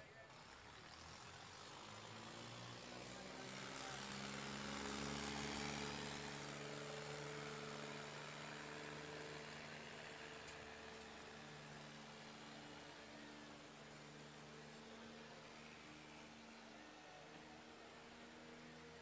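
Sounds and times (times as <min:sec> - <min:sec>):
tractor engines labouring: 0:00.0 - 0:19.0.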